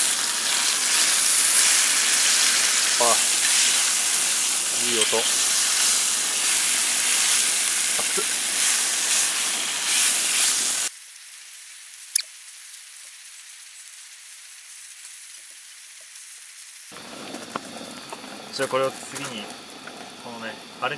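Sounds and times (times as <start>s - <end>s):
faint high hiss: 0.0s - 20.9s
meat sizzling in a skillet: 0.0s - 20.9s.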